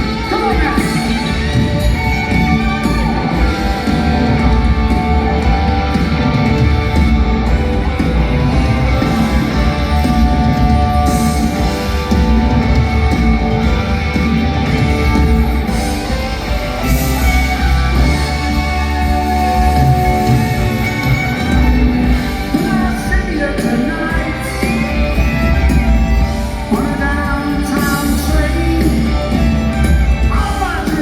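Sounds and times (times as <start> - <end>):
electric guitar: 0.0 - 31.0
live rock band playing: 0.0 - 31.0.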